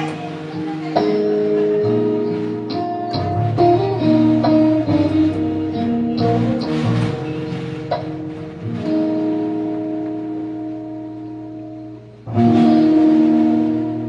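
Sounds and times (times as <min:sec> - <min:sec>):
bass line: 0:00.0 - 0:14.0
guitar-led pop music: 0:00.0 - 0:14.0.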